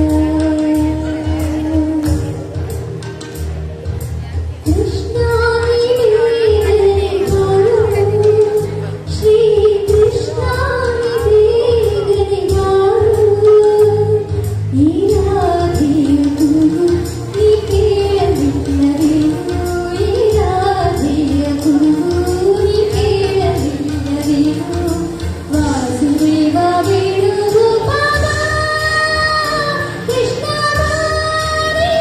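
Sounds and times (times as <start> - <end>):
woman singing: 0.0 - 2.5, 4.6 - 32.0
low accompaniment: 0.0 - 32.0.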